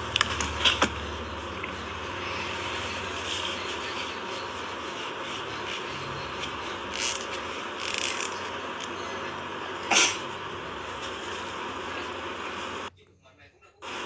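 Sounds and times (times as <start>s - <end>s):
steady background hiss: 0.0s - 12.9s.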